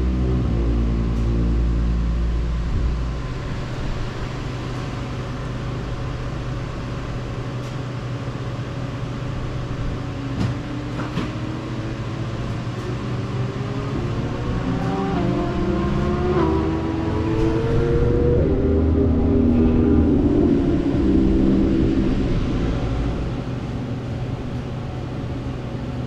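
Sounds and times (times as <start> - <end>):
car engine accelerating: 0.0 - 26.0
wind and road noise: 0.0 - 26.0.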